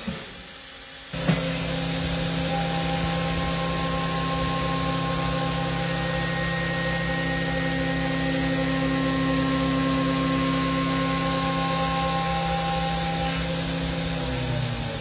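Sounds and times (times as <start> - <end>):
milling machine whine: 0.7 - 15.0.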